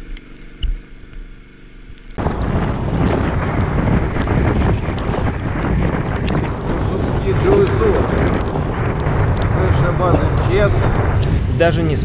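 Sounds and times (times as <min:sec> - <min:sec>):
motorcycle engine and road rumble: 0:00.0 - 0:12.0
wind buffeting microphone: 0:02.2 - 0:12.0.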